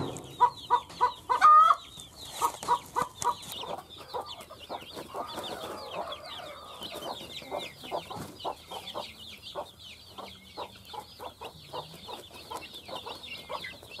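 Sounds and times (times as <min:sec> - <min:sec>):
chicks peeping: 0:00.0 - 0:14.0
hen clucking: 0:00.0 - 0:14.0.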